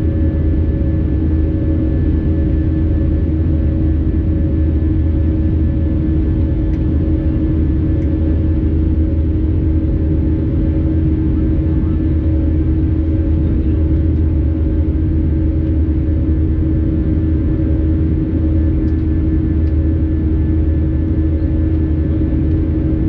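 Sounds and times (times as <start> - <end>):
constant cabin hum: 0.0 - 23.0
engine and airflow rumble: 0.0 - 23.0.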